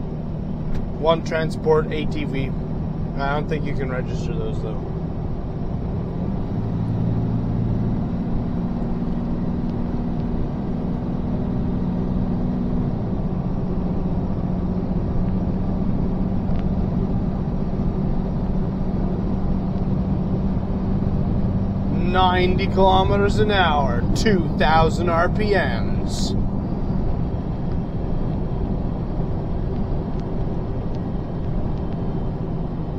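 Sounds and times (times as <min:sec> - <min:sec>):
truck diesel engine running: 0:00.0 - 0:32.9
tyre and road noise: 0:00.0 - 0:32.9.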